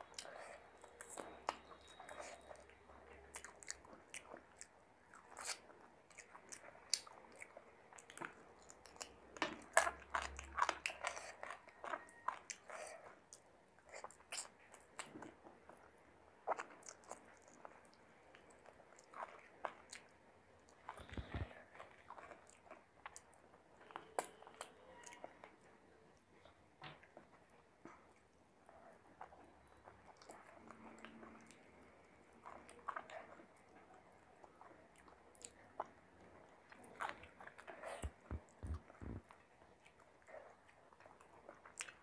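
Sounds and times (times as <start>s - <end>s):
chewing food: 0.0s - 42.0s.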